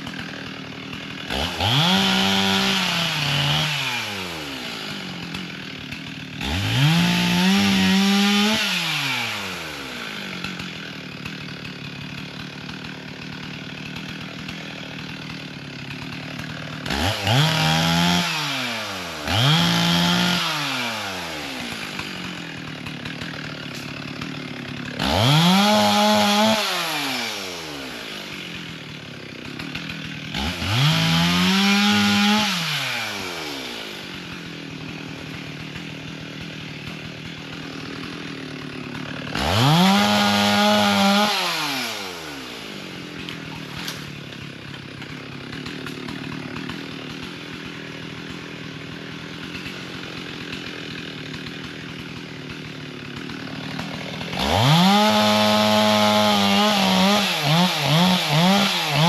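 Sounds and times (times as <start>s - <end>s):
chainsaw revving and idling: 0.0s - 59.0s.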